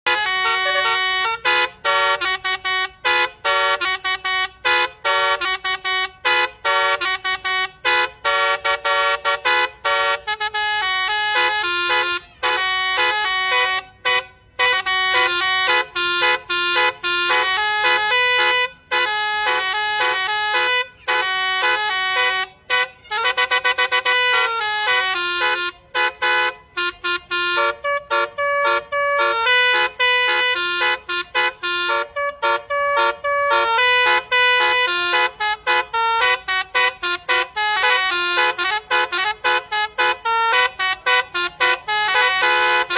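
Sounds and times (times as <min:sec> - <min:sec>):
musical truck horn toots: 0:00.0 - 0:42.9.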